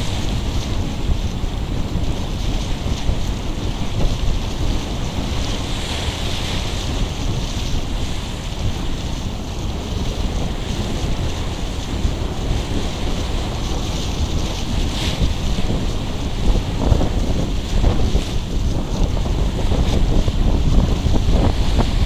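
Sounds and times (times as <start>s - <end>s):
sea rushing past boat hull: 0.0s - 22.0s
wind buffeting microphone: 0.0s - 22.0s.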